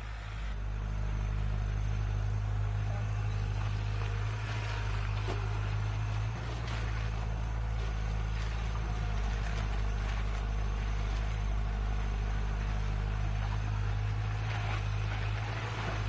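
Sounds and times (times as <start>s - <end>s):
heavy machinery engine humming: 0.0s - 16.0s.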